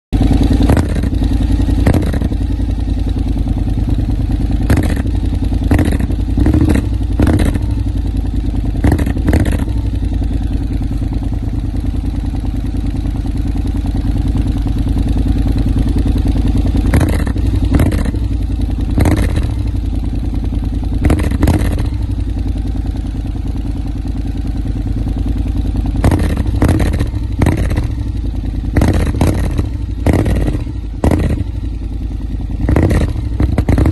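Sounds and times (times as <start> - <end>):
motorcycle engine deep rumble: 0.1 - 33.9.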